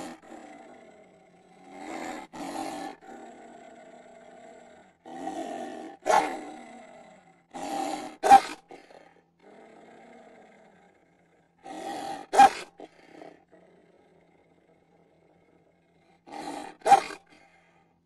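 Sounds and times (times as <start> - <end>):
animal growls and roars: 0.0 - 17.8.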